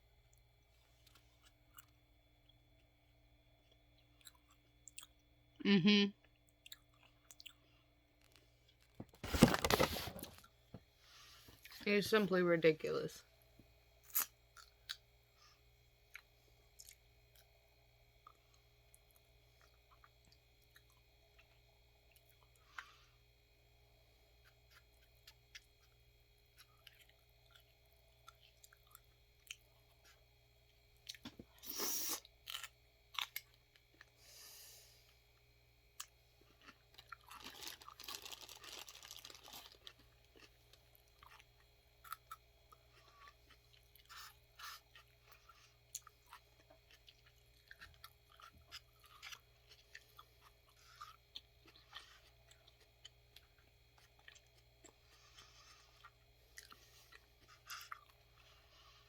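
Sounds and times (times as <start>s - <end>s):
crunching and chewing raw vegetables: 0.1s - 59.0s.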